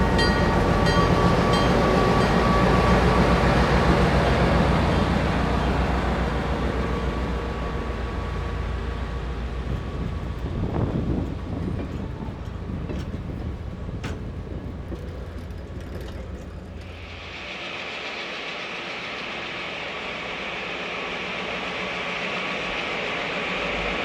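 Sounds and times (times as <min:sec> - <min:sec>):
passenger train running: 0:00.0 - 0:24.0.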